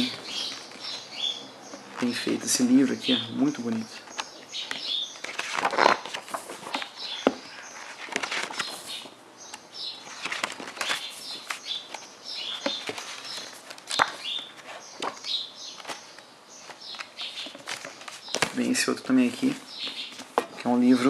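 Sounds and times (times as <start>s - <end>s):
birds chirping: 0.0s - 21.0s
book pages turning: 1.7s - 2.8s, 3.5s - 21.0s
paper flaps and sharp clicks: 3.6s - 20.7s.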